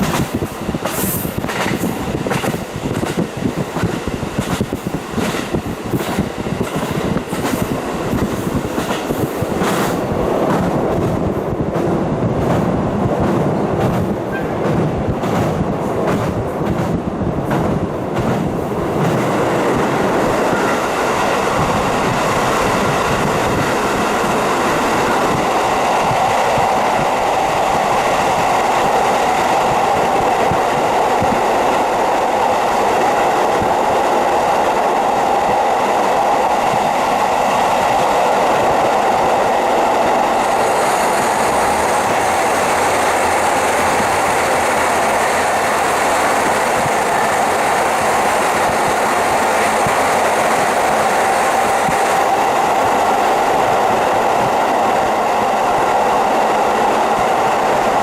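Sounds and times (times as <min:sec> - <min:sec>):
railcar running noise with hum: 0:00.0 - 0:58.0.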